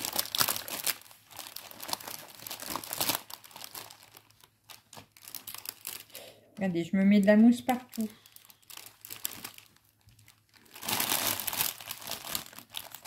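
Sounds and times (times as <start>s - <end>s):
plastic packaging crinkling: 0.0s - 6.2s, 7.1s - 13.0s.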